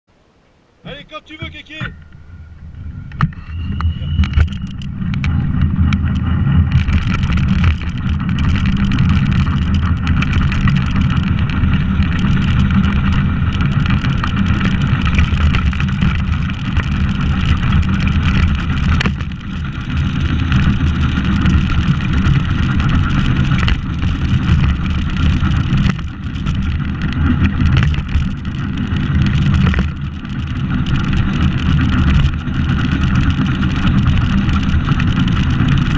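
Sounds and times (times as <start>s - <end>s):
wheels rumbling on asphalt: 0.1s - 35.9s.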